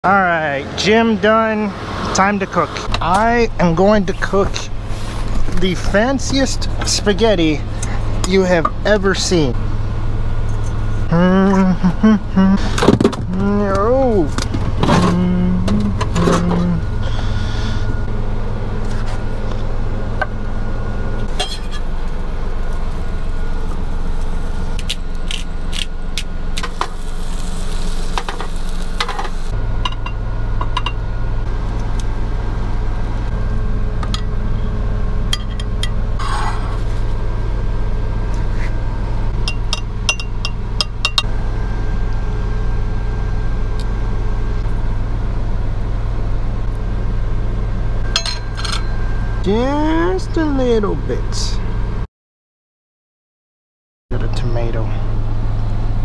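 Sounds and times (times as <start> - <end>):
truck engine idling: 0.3 - 26.6, 28.9 - 51.9.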